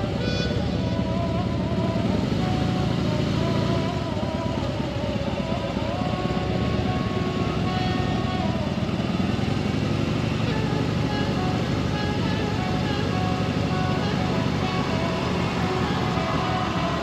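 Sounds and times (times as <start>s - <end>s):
background music: 0.0s - 17.0s
motorcycle engine rumble: 0.0s - 17.0s.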